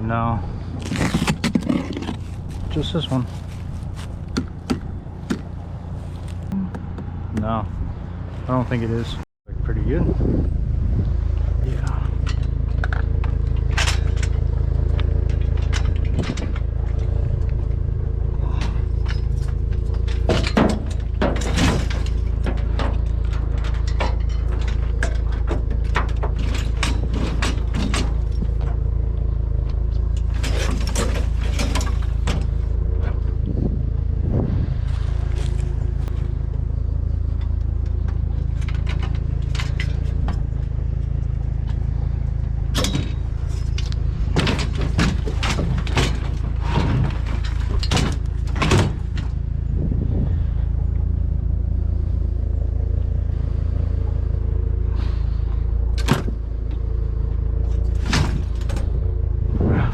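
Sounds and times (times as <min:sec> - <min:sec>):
pickup truck engine running: 0:00.0 - 0:09.1, 0:09.7 - 0:59.9.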